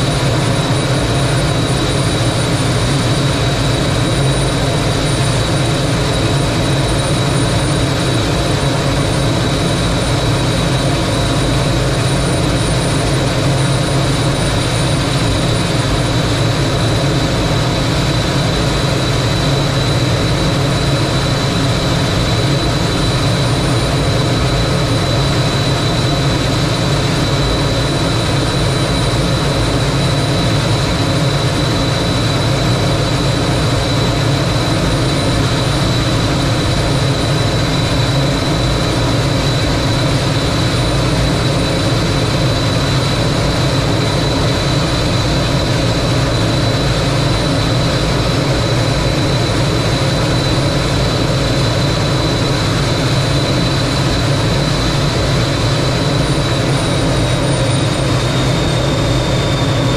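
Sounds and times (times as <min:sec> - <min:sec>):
high whine: 0:00.0 - 0:59.9
jet engine roar: 0:00.0 - 0:59.9.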